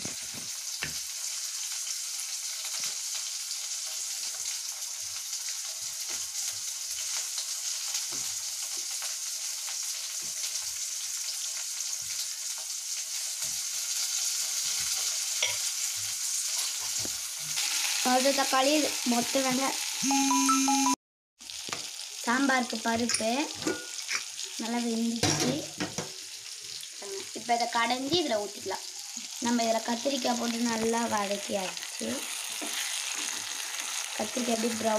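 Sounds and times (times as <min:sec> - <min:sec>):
vegetables sizzling in oil: 0:00.0 - 0:20.3, 0:21.4 - 0:34.9.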